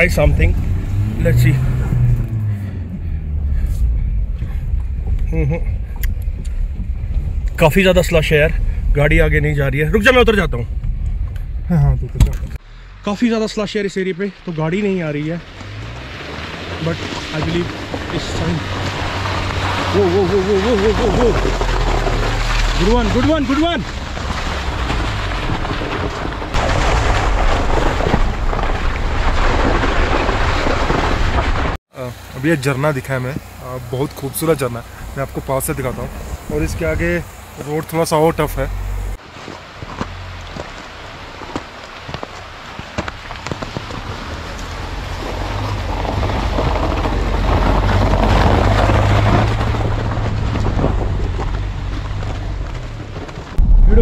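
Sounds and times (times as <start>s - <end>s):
car engine under load: 0.0s - 54.0s.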